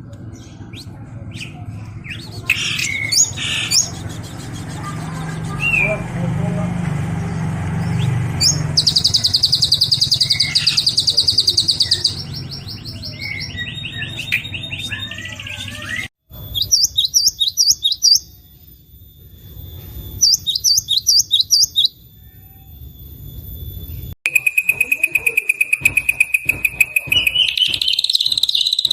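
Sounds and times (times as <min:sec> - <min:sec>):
songbird trill: 0:00.1 - 0:06.1, 0:07.2 - 0:28.9
bird chirps: 0:00.1 - 0:06.2, 0:07.0 - 0:28.9.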